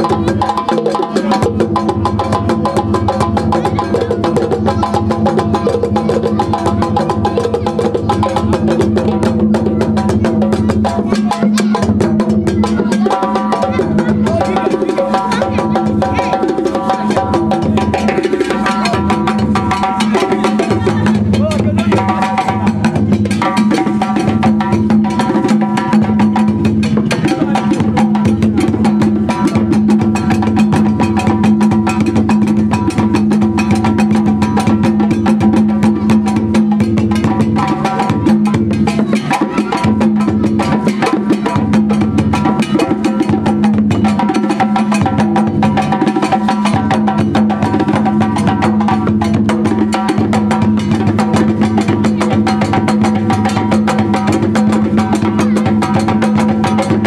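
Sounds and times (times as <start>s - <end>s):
bass drum beaten with stick: 0.0s - 57.0s
hand drums playing fast rhythm: 0.0s - 57.0s.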